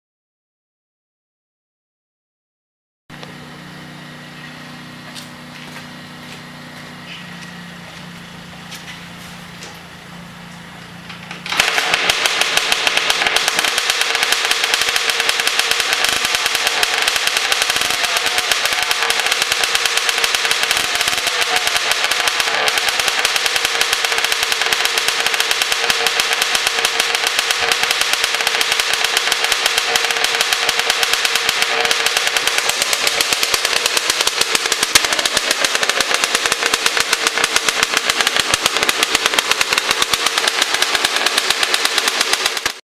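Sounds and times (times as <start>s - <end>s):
two-stroke engine starting and running: 3.1s - 42.8s.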